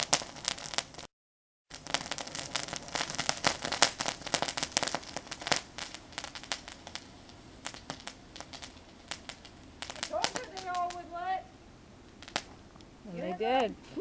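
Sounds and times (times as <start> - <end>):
small fireworks crackling: 0.0 - 1.1, 1.7 - 14.0.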